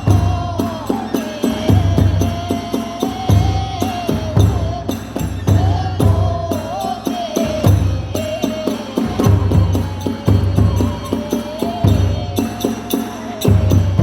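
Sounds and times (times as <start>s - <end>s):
bamboo flute melody: 0.0s - 14.0s
large drum strokes: 0.0s - 14.0s
small hand cymbals clashing: 0.0s - 14.0s.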